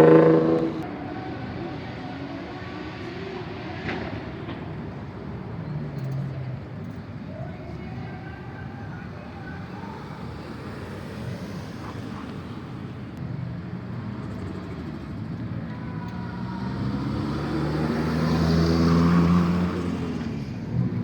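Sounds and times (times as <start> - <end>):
car engine approaching: 0.0 - 21.0.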